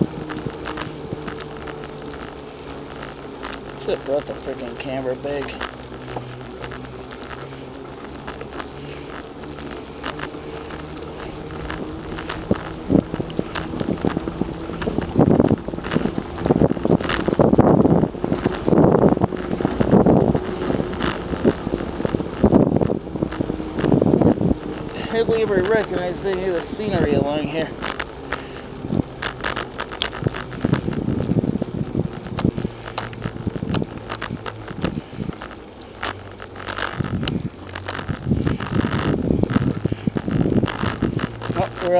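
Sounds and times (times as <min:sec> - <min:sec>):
bicycle clicks and rattles: 0:00.0 - 0:41.9
bicycle tyres rolling: 0:00.0 - 0:41.9
low steady hum: 0:00.0 - 0:41.9
wind buffeting microphone: 0:00.0 - 0:41.9.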